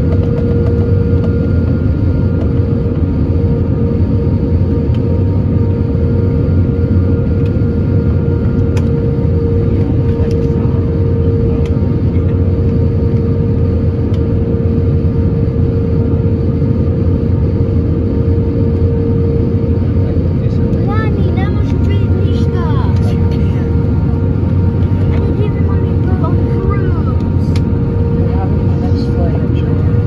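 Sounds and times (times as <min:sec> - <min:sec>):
jet engines and rushing air: 0:00.0 - 0:30.0
mid-pitched hum: 0:00.0 - 0:30.0.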